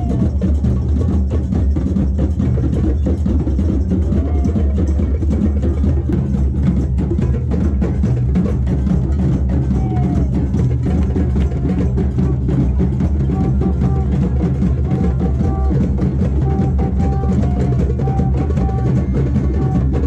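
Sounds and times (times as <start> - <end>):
hand drums rhythm: 0.0 - 20.0.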